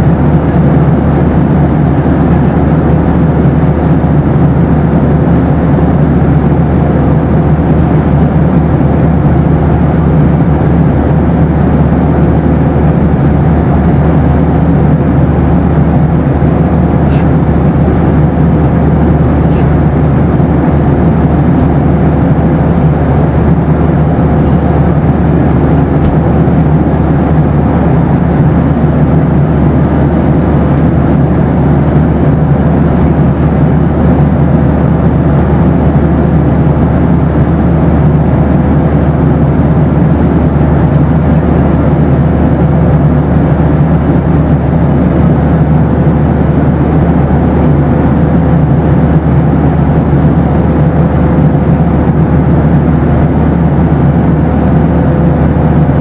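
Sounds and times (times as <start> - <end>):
aircraft cabin engine and airflow noise: 0.0 - 56.0.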